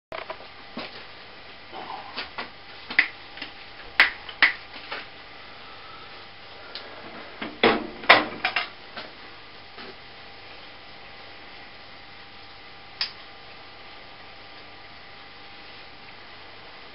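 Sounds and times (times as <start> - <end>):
faint steady hum: 0.1 - 16.9.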